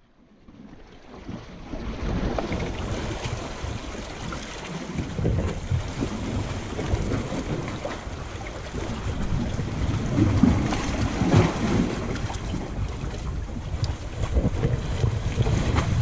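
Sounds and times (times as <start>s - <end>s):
small waves washing over rocks: 1.1s - 16.0s
wind buffeting microphone: 1.3s - 16.0s.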